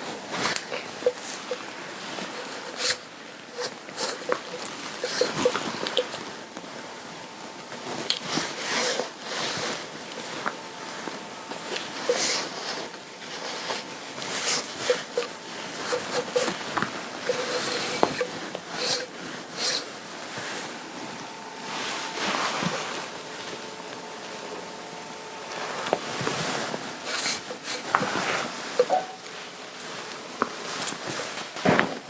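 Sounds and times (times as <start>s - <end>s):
fabric rustling: 0.0s - 24.8s, 25.4s - 32.0s.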